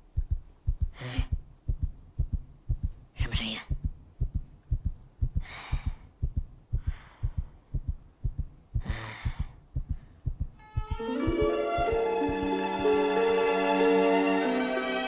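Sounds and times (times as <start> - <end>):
soft breaths: 0.0 - 12.4
heartbeat thumps: 0.0 - 12.8.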